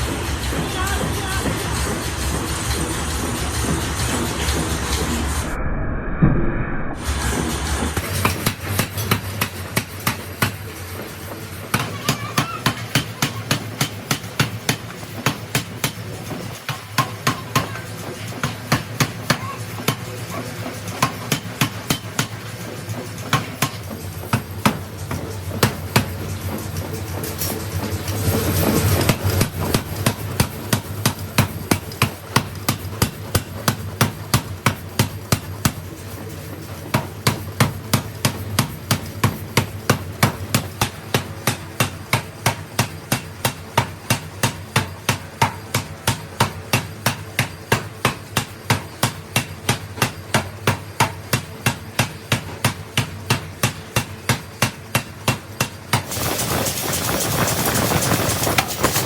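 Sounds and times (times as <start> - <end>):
steady machine hum: 0.0 - 59.0
rapid striking on metal: 7.0 - 59.0.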